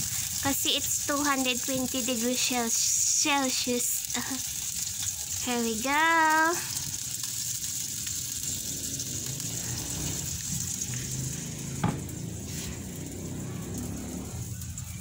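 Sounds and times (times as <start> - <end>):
chicken sizzling in oven: 0.0 - 15.0.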